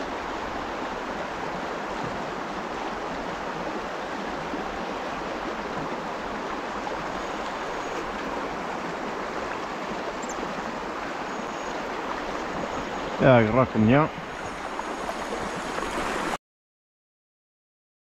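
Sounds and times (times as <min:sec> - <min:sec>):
river rushing over riffle: 0:00.0 - 0:16.4.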